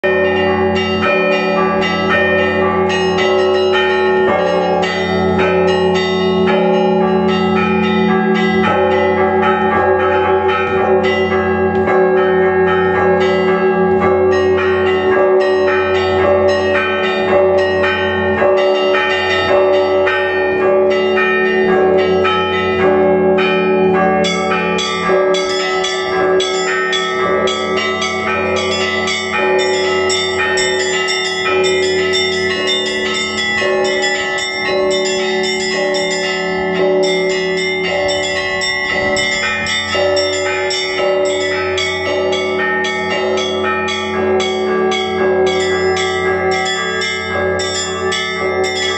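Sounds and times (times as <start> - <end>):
church bells pealing: 0.0 - 48.9.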